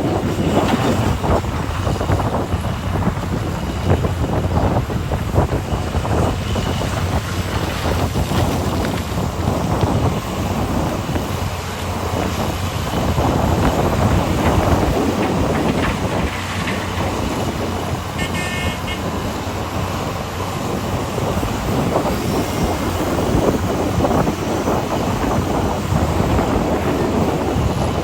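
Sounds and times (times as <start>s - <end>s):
heavy diesel machinery rumbling: 0.0s - 28.0s.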